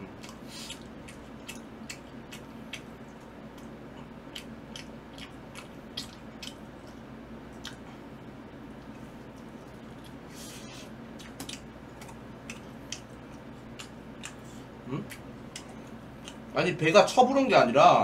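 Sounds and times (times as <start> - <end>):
person chewing food: 0.0 - 16.5.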